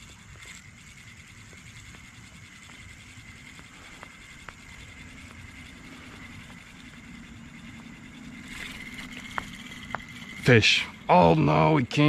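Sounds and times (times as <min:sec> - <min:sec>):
fishing reel whirring: 0:00.0 - 0:12.0
light reel clicks: 0:00.0 - 0:12.0
low outdoor rumble: 0:00.0 - 0:12.0.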